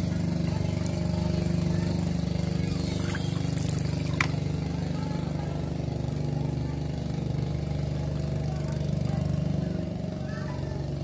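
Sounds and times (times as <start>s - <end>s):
small engine droning: 0.0s - 11.0s.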